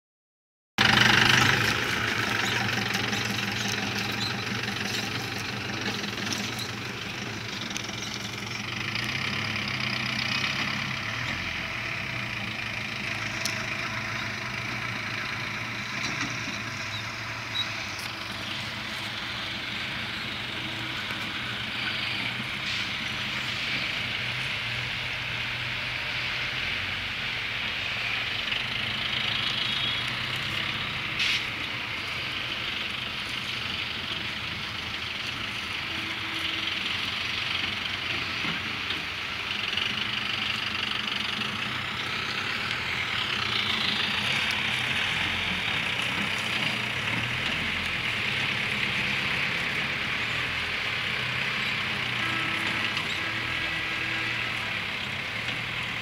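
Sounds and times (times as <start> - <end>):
jeep engine running: 0.8 - 56.0.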